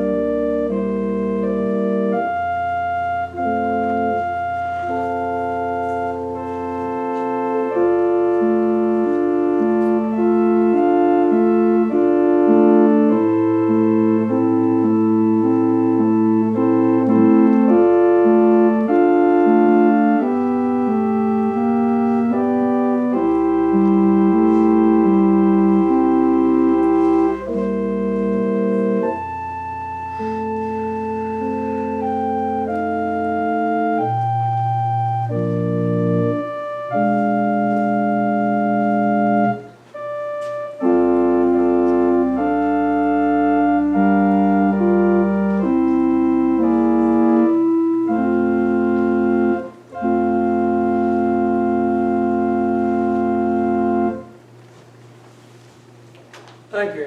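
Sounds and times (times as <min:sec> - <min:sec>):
organ music: 0:00.0 - 0:57.0.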